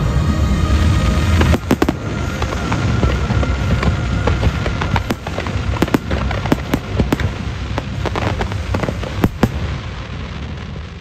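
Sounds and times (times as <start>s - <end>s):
low rumble: 0.0s - 11.0s
fireworks cracking and popping: 0.7s - 11.0s.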